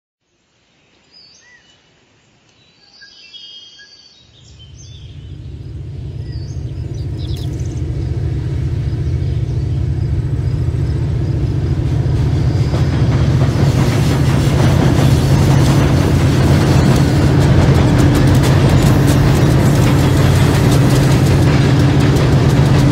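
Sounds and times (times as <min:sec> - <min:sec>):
model locomotive engine rumble: 0:04.5 - 0:22.9.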